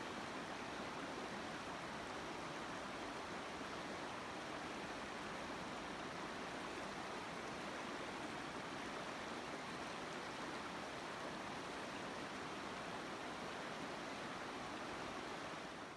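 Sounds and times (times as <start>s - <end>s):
river water rushing: 0.0s - 15.9s.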